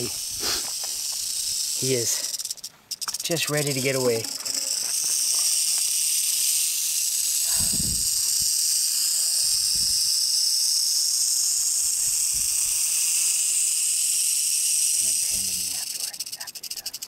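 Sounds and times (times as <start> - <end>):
rattlesnake rattling its tail: 0.0 - 17.0.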